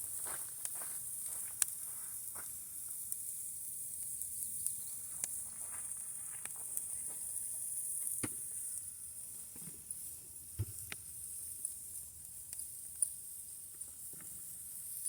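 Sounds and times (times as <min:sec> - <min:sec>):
campfire crackling and popping: 0:00.0 - 0:15.0
steady high hiss: 0:00.0 - 0:15.0.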